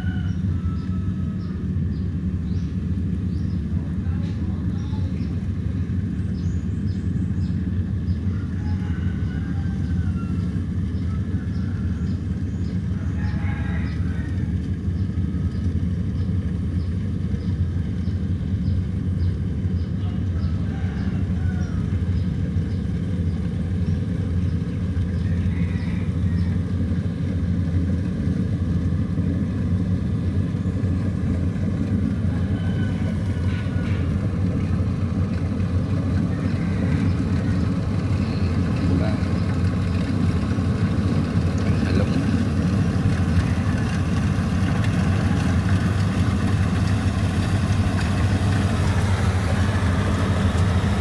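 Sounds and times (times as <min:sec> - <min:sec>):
diesel engine droning: 0:00.0 - 0:51.0.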